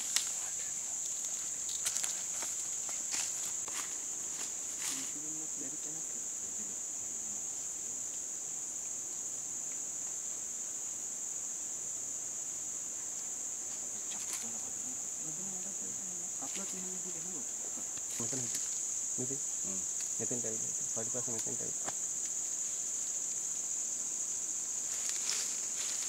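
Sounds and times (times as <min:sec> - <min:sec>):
insects buzzing drone: 0:00.0 - 0:26.0.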